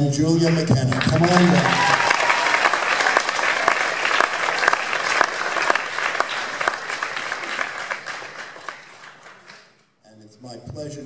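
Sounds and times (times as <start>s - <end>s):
audience applauding: 0.4s - 9.8s.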